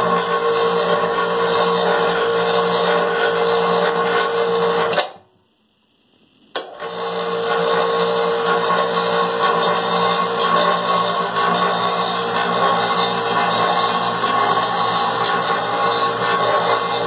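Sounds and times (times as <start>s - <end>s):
electric hoist motor humming: 0.0s - 5.2s, 6.5s - 17.0s.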